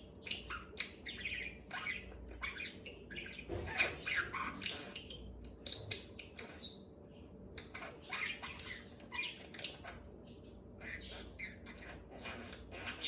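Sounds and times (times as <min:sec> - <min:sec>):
budgerigar chirps and squawks: 0:00.2 - 0:06.9, 0:07.6 - 0:10.1, 0:10.8 - 0:13.0.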